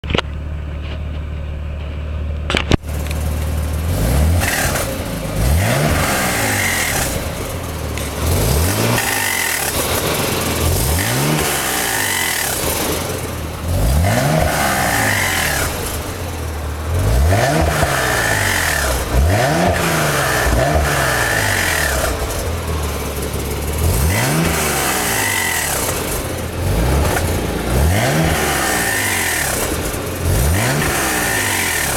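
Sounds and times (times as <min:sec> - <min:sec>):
weird noise on throttle release: 0:00.0 - 0:31.9
car engine revving: 0:00.8 - 0:31.9.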